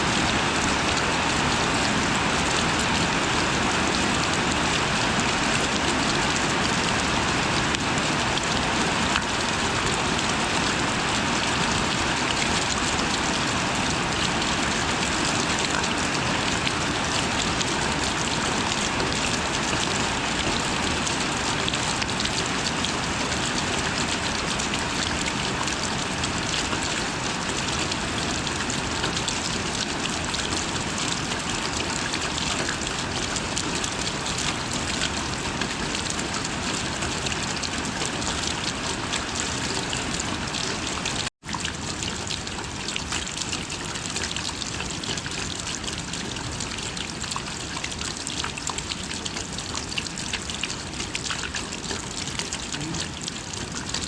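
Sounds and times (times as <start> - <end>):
steady rain: 0.0 - 54.0
trickling water: 0.0 - 54.0.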